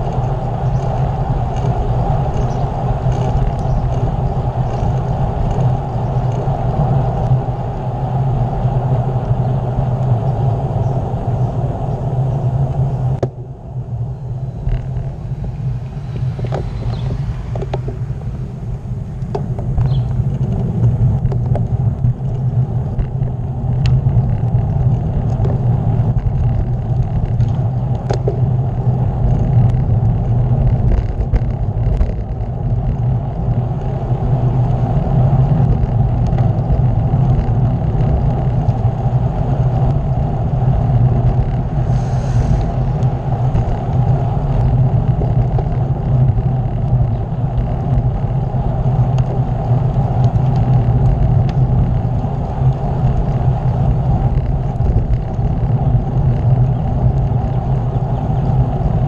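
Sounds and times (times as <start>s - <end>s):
tyre and road noise: 0.0s - 59.0s
wind rumble on microphone: 0.0s - 59.0s.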